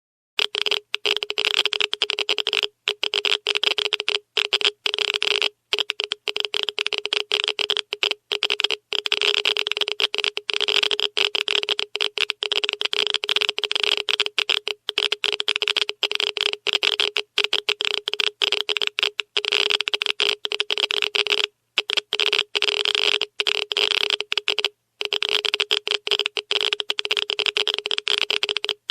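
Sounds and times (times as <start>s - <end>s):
geiger counter crackling: 0.4s - 28.9s.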